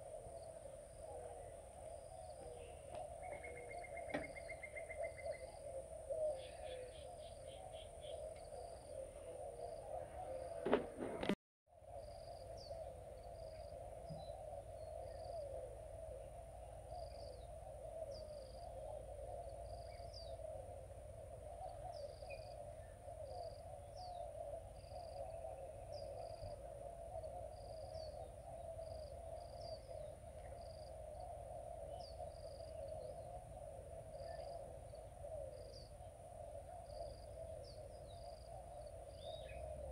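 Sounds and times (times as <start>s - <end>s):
chorus of calling animals: 0.0s - 11.3s, 12.0s - 39.9s.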